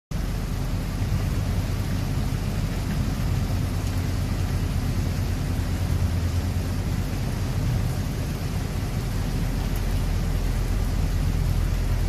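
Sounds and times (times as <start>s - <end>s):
low rumble of wind: 0.1s - 12.0s
heavy rain hissing: 0.2s - 12.0s.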